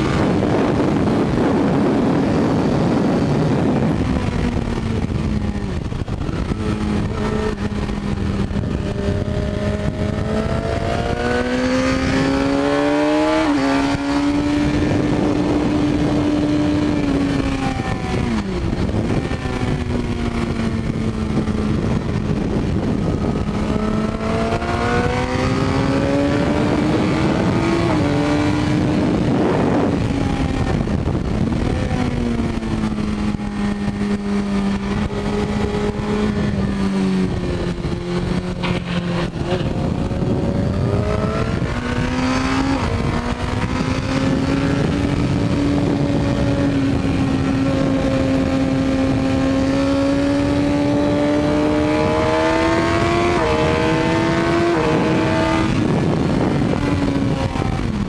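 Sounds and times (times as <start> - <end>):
motorcycle engine accelerating: 0.0 - 58.0
wind rushing over microphone: 0.0 - 58.0.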